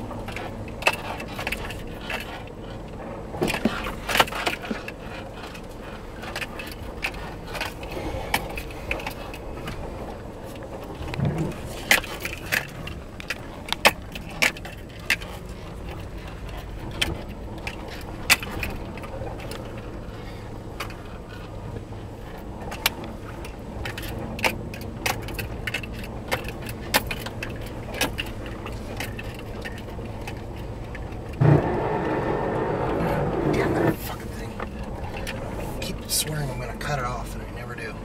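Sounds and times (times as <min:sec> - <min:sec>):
cab clicks and rattles: 0:00.0 - 0:36.9
engine and tyre rumble: 0:00.0 - 0:38.0.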